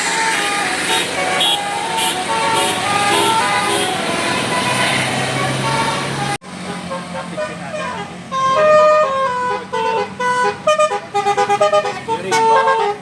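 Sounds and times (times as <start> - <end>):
musical bus horn playing a tune: 0.0 - 13.0
road and traffic noise: 0.0 - 13.0.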